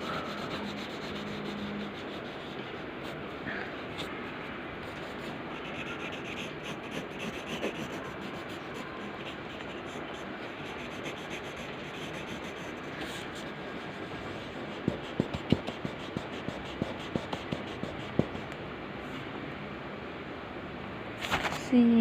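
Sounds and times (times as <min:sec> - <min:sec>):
pencil scratching on paper: 0:00.0 - 0:04.1, 0:04.9 - 0:18.5.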